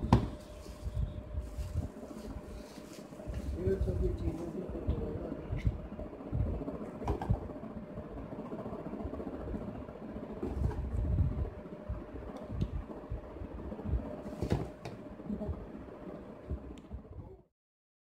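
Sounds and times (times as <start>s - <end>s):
low rumble and hum: 0.0s - 17.5s.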